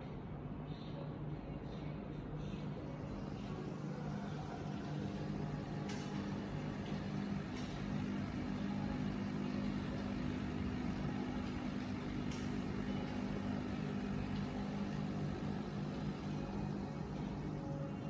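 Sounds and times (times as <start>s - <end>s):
air pump humming: 3.1s - 17.7s.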